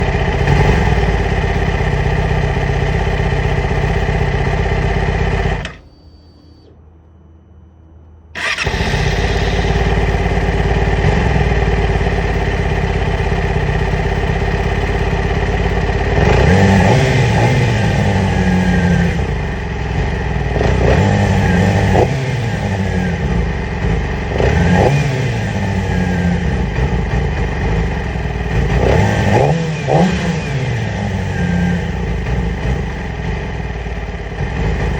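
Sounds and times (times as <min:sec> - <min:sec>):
motorcycle engine idling roughly: 0:00.0 - 0:06.3, 0:08.4 - 0:34.9
engine throttle blips: 0:00.0 - 0:06.8, 0:08.4 - 0:34.9.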